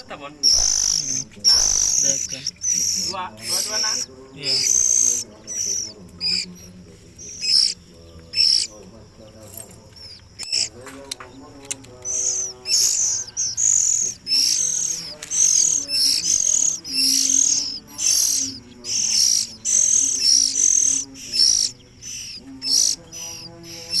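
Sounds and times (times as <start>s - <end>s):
chicks giving begging calls: 0.0s - 24.0s.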